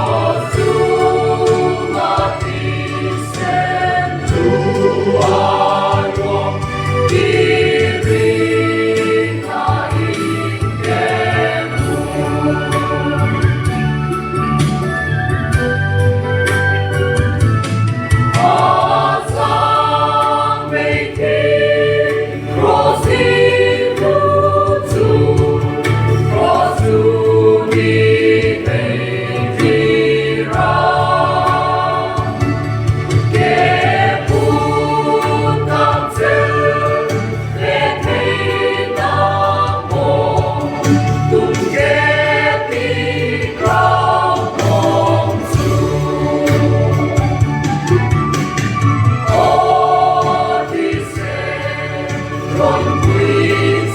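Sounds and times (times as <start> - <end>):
choir singing gospel over a beat: 0.0 - 53.9.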